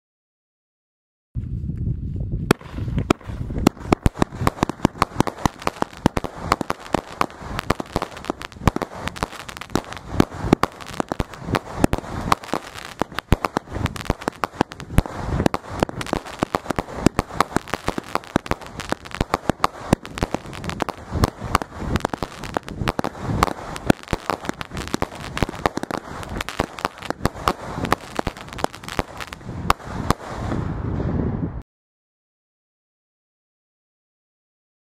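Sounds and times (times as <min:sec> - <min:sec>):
fireworks launches and bursts: 0:02.5 - 0:31.2.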